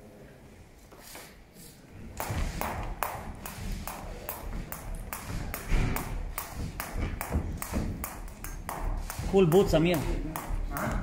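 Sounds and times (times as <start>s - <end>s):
skipping rope slapping canvas: 2.1s - 11.0s.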